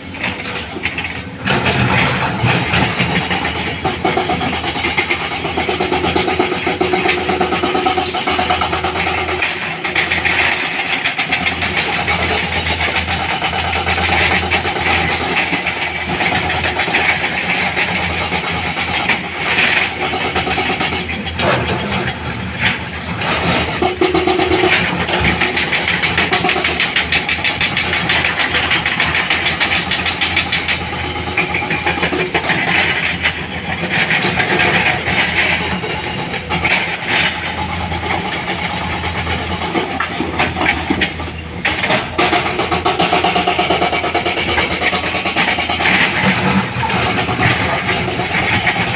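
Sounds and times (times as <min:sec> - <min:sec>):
heavy machinery diesel engines: 0:00.0 - 0:48.9.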